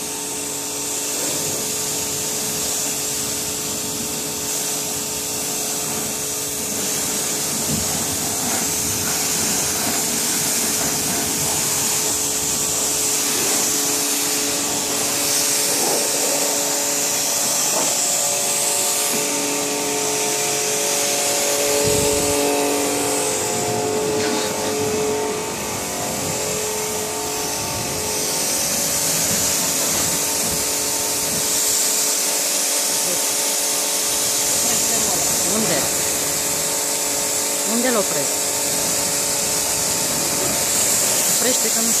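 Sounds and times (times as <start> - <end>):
pressure washer jet hissing: 0.0 - 42.0
pump motor humming: 0.0 - 42.0.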